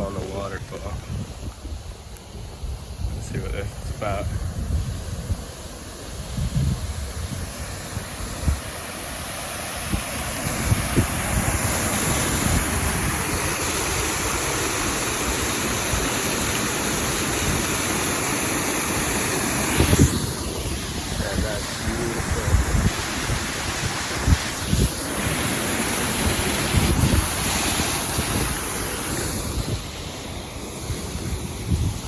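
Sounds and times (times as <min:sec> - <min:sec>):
wind buffeting microphone: 0:00.0 - 0:08.8, 0:09.8 - 0:16.2, 0:19.6 - 0:32.0
waterfall rushing: 0:05.1 - 0:32.0.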